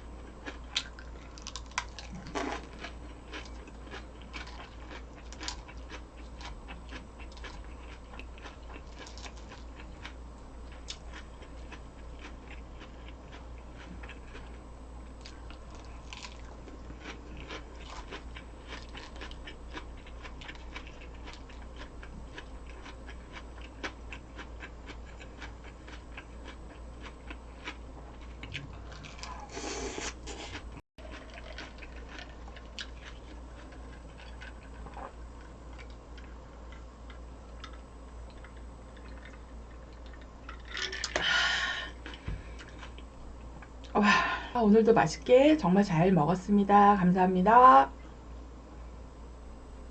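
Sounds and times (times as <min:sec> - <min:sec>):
steady low hum: 0:00.0 - 0:49.9
person chewing crunchy food: 0:00.1 - 0:43.9.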